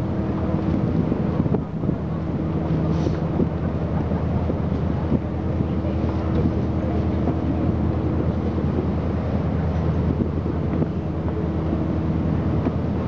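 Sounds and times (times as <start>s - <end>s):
ship engine humming: 0.0s - 13.0s
wind rumbling on microphone: 0.0s - 13.0s.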